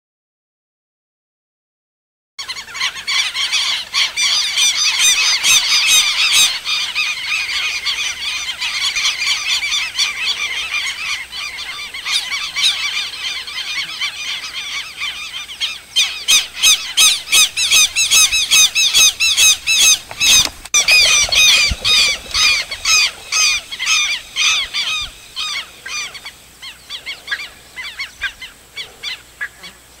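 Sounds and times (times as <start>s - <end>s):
birds calling harshly: 2.4s - 30.0s.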